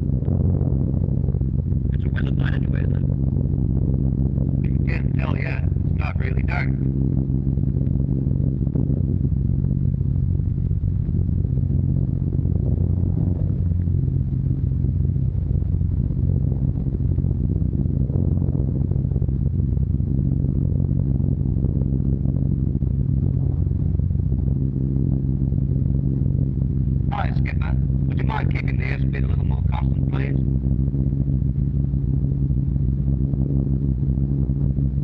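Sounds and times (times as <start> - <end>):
bomber engines droning: 0.0 - 35.0.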